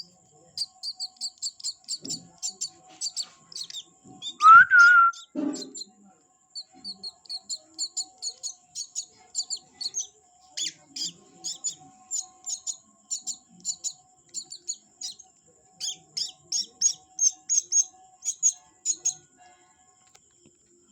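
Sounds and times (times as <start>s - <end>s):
small bird chirping: 0.0s - 19.3s.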